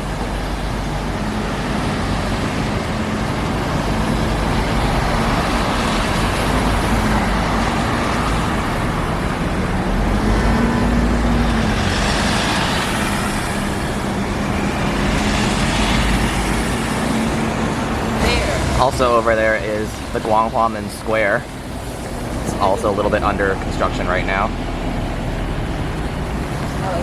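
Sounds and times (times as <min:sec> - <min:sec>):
traffic engine hum and tyre noise: 0:00.0 - 0:27.0.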